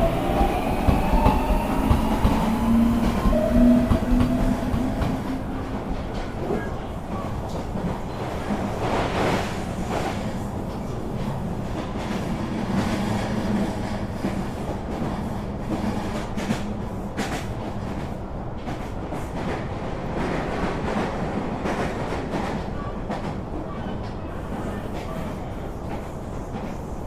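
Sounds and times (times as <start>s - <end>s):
train rumbling inside carriage: 0.0s - 27.0s
train wheels clacking on rails: 0.0s - 27.0s.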